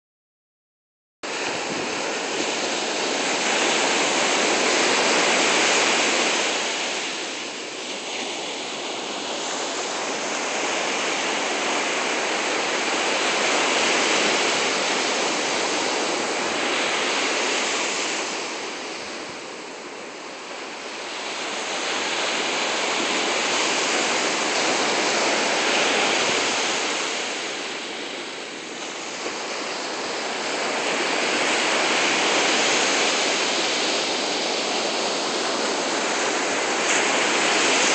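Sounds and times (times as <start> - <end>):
ocean surf breaking on beach: 1.2 - 37.9.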